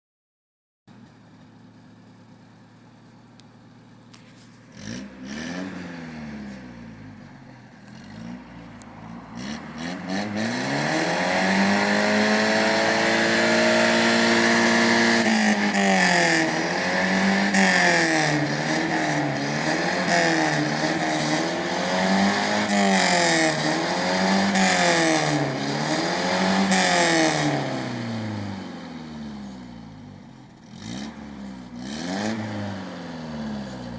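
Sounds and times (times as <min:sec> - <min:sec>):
car engine revving: 0:04.6 - 0:33.9.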